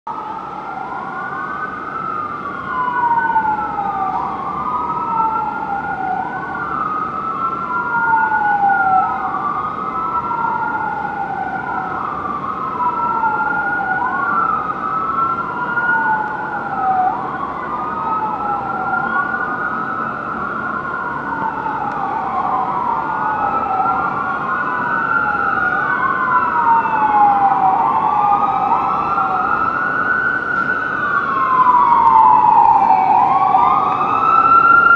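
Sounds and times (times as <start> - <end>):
emergency sirens wailing: 0.1 - 34.9
low rumble of traffic: 0.1 - 34.9.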